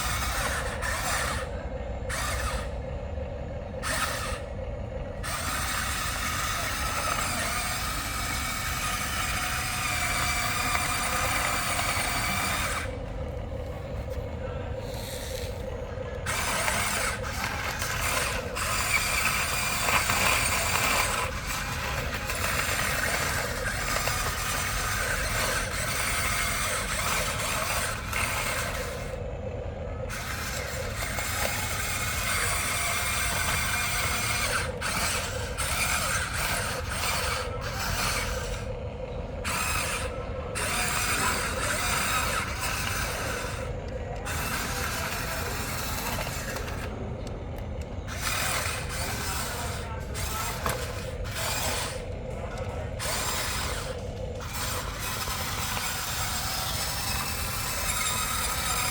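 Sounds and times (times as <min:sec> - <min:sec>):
toy electric motors whirring: 0:00.0 - 0:58.9.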